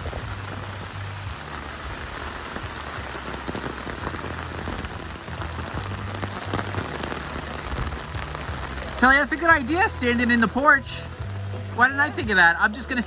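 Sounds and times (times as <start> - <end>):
low rumble: 0.0 - 13.0
rain falling: 0.0 - 13.0.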